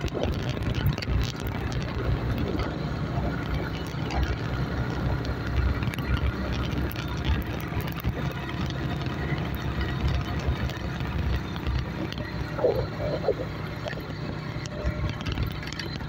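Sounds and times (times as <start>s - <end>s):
bike riding on rough road: 0.0s - 16.0s
wind buffeting microphone: 0.0s - 16.0s.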